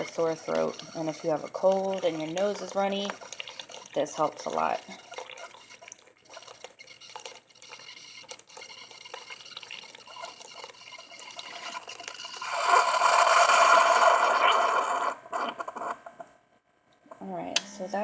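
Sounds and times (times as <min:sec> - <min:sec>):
hissing gurgling sputter: 0:00.0 - 0:15.8.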